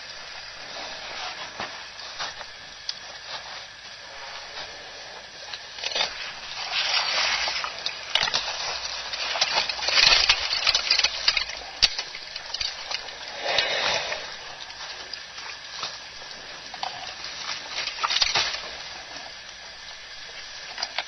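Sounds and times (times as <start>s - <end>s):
elephants moving through dry grass: 0.0s - 21.0s.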